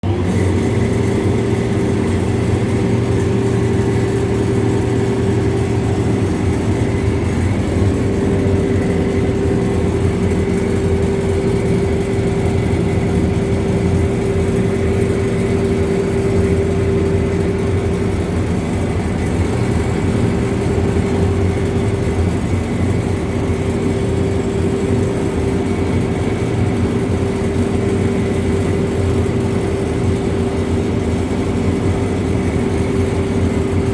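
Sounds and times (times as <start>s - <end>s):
machine drone and hum: 0.0s - 33.9s.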